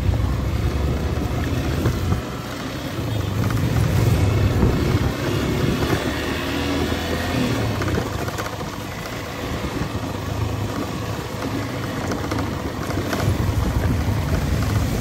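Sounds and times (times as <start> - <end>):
motorcycle engine running: 0.0 - 15.0
tyres on wet mud: 0.0 - 15.0.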